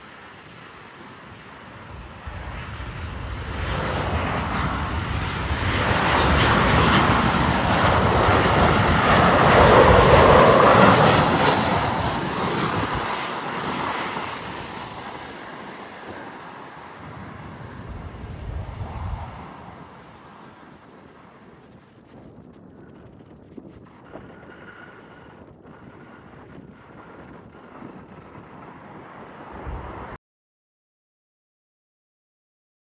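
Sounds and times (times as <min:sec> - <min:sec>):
jet engines passing by: 0:00.0 - 0:30.2.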